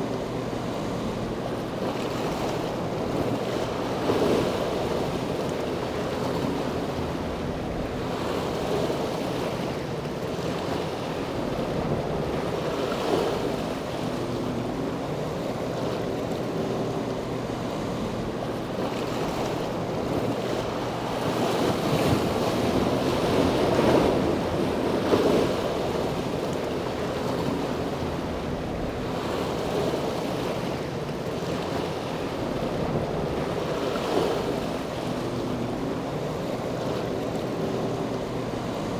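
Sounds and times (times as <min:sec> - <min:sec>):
faint boat engines droning: 0:00.0 - 0:38.9
rushing wind and water: 0:00.0 - 0:38.9
wind buffeting microphone: 0:00.0 - 0:38.9.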